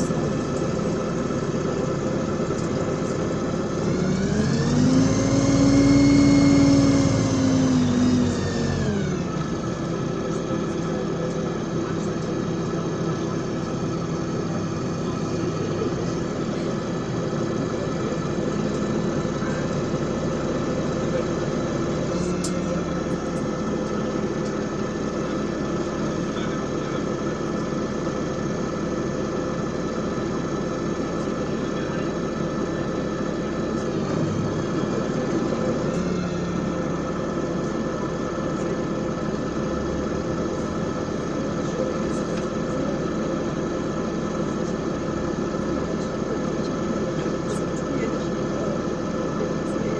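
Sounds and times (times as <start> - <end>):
bus engine idling: 0.0 - 49.9.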